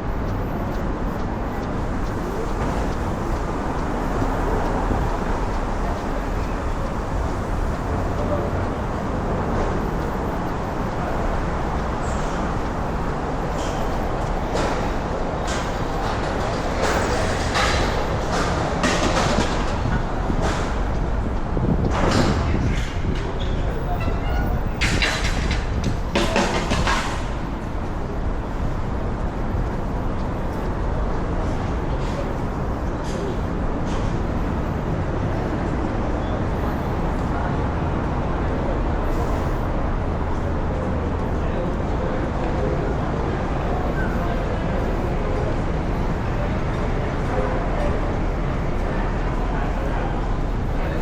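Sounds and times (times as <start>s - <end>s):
city traffic rumble: 0.0s - 51.0s.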